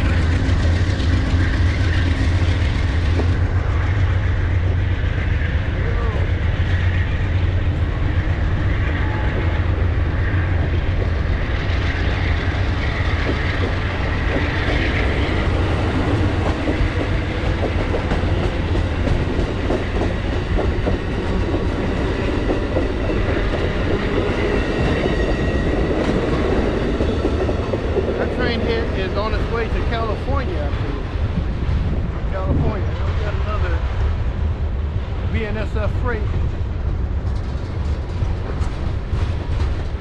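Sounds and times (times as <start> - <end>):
train wheels clicking over rail joints: 0.0 - 32.5, 35.3 - 40.0
train rumbling: 0.0 - 40.0.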